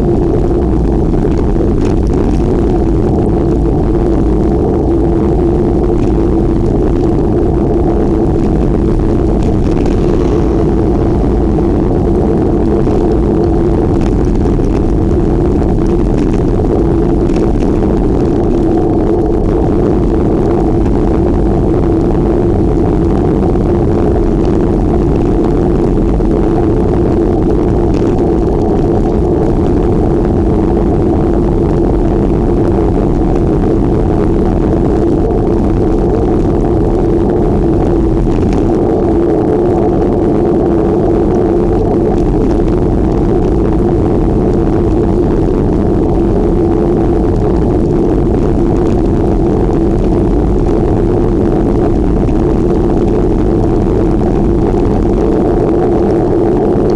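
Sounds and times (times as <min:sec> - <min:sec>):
wind rumble on moving bicycle: 0:00.0 - 0:56.9.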